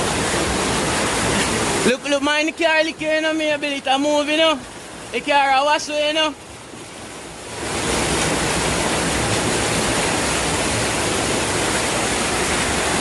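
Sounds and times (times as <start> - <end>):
loud rush of floodwater: 0.0 - 13.0.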